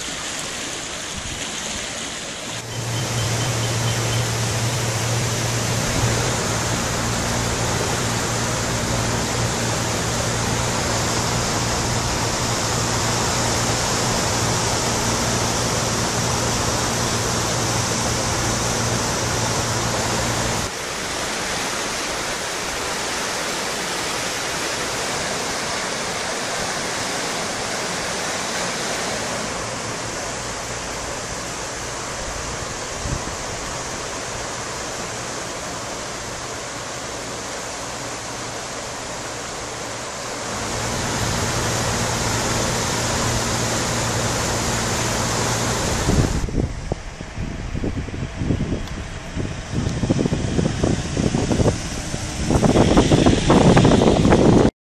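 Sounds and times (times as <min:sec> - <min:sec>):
river rushing roar: 0:00.0 - 0:54.7.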